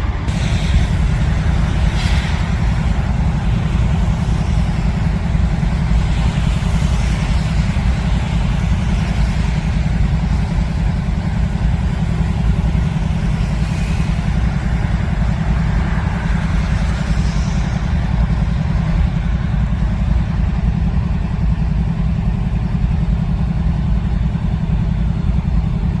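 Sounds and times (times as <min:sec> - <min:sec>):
hiss: 0:00.0 - 0:22.1
diesel locomotive engine rumble: 0:00.0 - 0:26.0.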